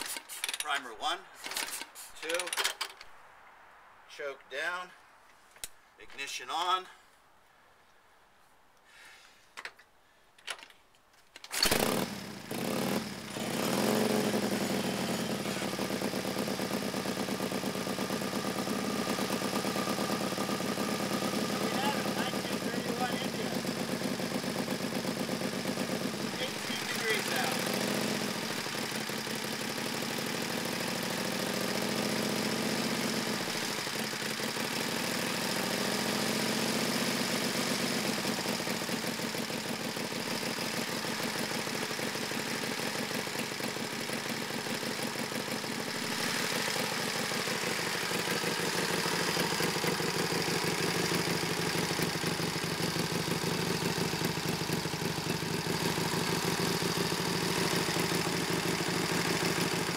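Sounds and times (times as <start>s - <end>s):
motorcycle engine idling: 11.7s - 59.9s.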